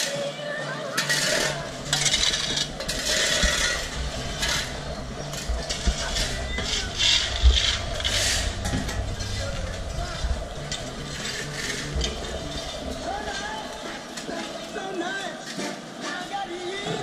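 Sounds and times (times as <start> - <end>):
people talking: 0.0 - 17.0
metal shovels scraping dirt: 0.9 - 14.8.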